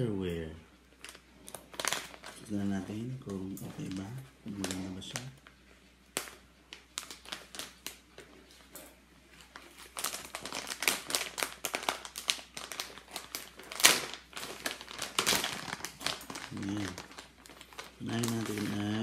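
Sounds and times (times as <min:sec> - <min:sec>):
plastic pouch crinkling: 0:00.9 - 0:19.0.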